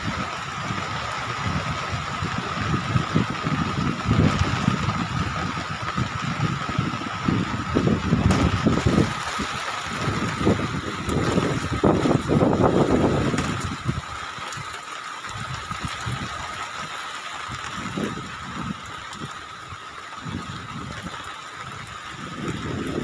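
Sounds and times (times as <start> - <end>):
outdoor hiss: 0.0 - 23.0
wind buffeting microphone: 0.0 - 23.0.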